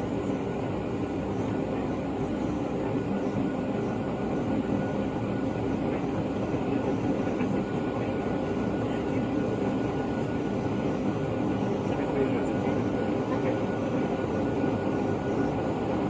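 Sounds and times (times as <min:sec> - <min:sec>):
airliner cabin engine drone: 0:00.0 - 0:16.0
faint steady whine: 0:00.0 - 0:16.0.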